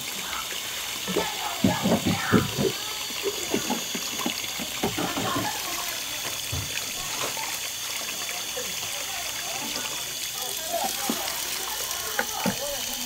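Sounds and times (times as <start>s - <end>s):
tap water running and splashing: 0.0s - 13.0s.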